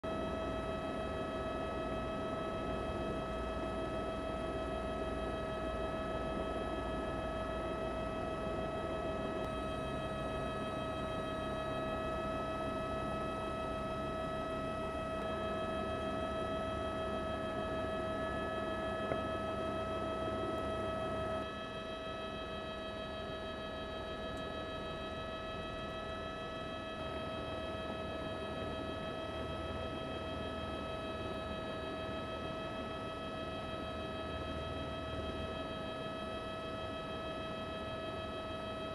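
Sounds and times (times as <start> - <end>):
helicopter engine drone: 0.1 - 38.9.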